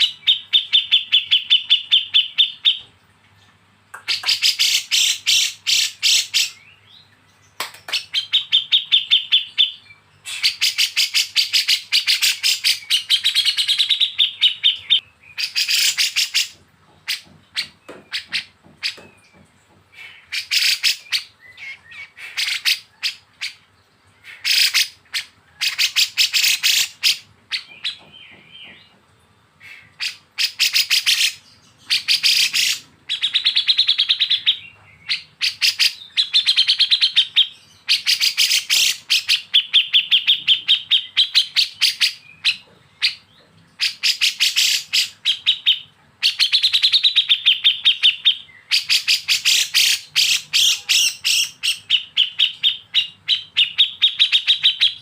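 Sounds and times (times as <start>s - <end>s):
birds chattering calls: 3.8s - 55.0s.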